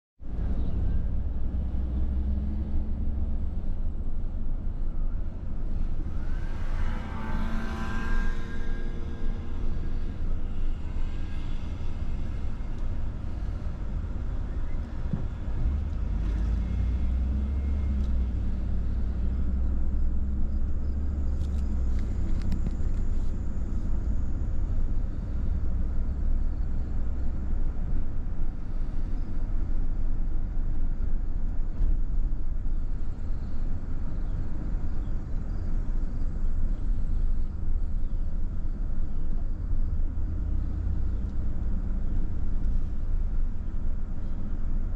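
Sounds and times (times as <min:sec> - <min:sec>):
car engine and road noise: 0:00.2 - 0:44.9.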